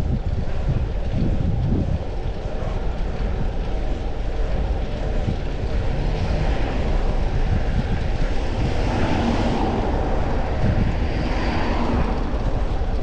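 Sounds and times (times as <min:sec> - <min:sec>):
road noise: 0:00.0 - 0:13.0
traffic: 0:00.0 - 0:13.0
wind rushing: 0:00.0 - 0:13.0.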